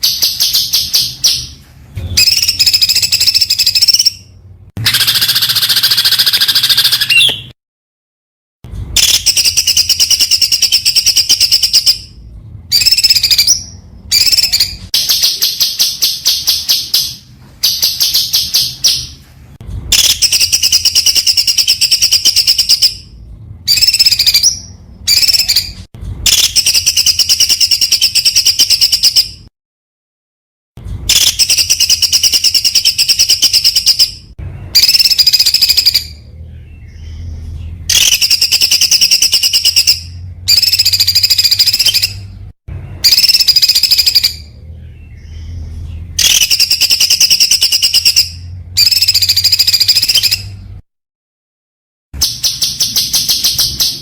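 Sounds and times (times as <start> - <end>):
songbird singing rapid phrases: 0.0 - 7.6, 8.8 - 19.2, 19.8 - 29.5, 31.0 - 50.8, 52.2 - 54.0.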